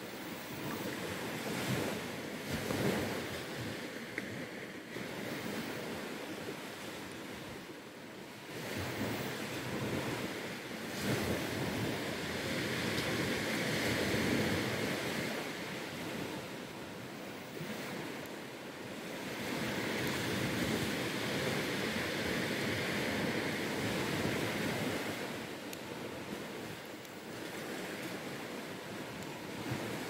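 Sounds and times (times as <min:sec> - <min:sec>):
ocean surf washing onto beach: 0:00.0 - 0:30.0.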